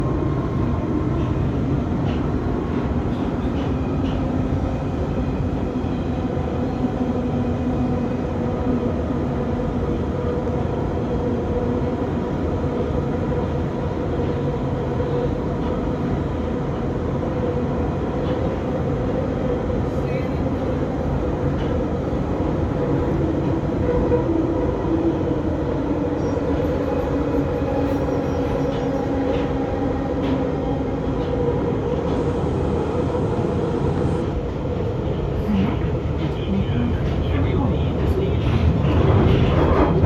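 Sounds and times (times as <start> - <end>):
underground train wheels rumbling: 0.0 - 40.0.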